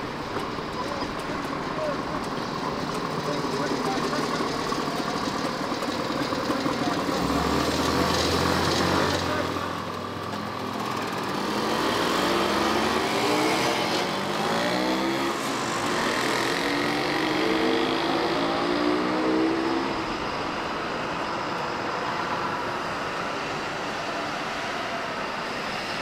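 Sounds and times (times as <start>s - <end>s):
vehicle engine accelerating: 0.0s - 24.5s
traffic noise: 0.0s - 26.0s.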